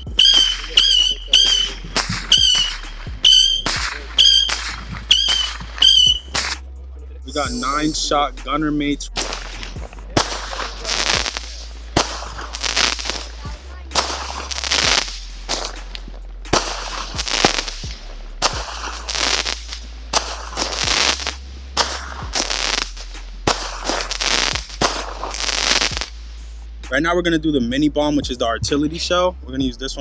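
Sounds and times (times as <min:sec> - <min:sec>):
firework bangs with crackling hiss: 0:00.0 - 0:06.6, 0:09.1 - 0:26.7.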